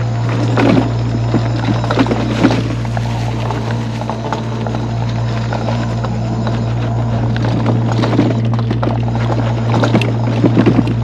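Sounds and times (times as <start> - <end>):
mobility scooter motor hum: 0.0 - 11.0
small rattles and crackles: 0.0 - 11.0.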